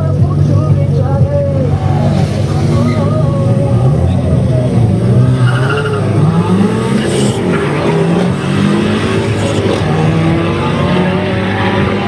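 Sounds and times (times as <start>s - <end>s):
racing car engines accelerating: 0.0s - 12.0s.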